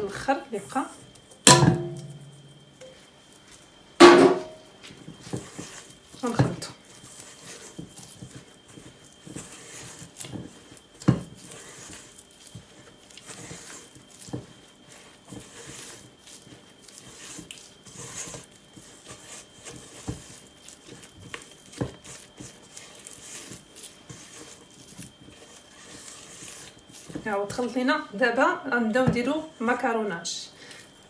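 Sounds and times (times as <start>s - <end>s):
spatula scraping batter in bowl: 4.8s - 29.8s.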